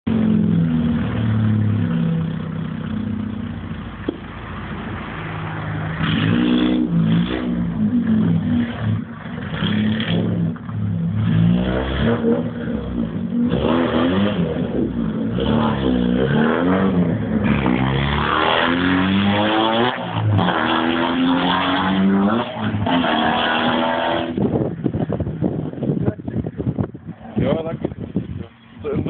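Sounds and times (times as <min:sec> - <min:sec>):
car engine revving: 0:00.1 - 0:26.2.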